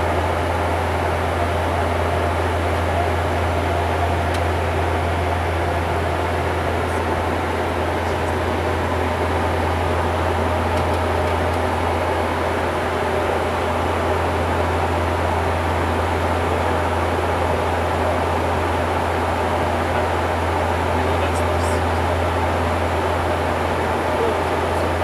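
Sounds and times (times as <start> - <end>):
propeller hum: 0.0 - 25.0.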